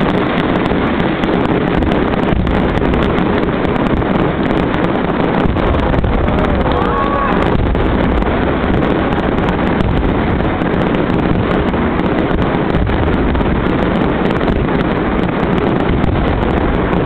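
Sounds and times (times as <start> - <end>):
fireworks bursts rumbling: 0.0 - 17.0
fireworks crackling: 0.0 - 17.0
wind buffeting microphone: 0.0 - 17.0.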